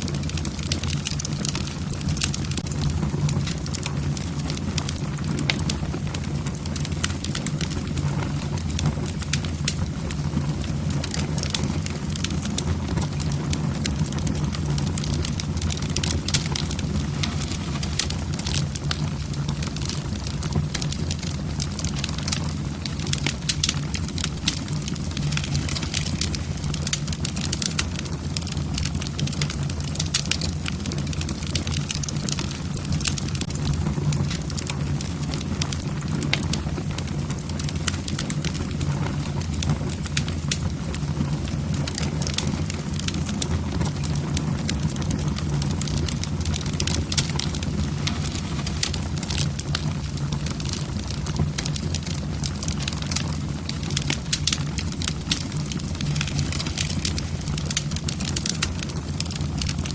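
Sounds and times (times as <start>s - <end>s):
logs crackling and popping: 0.0s - 59.9s
low rumble of flames: 0.0s - 59.9s.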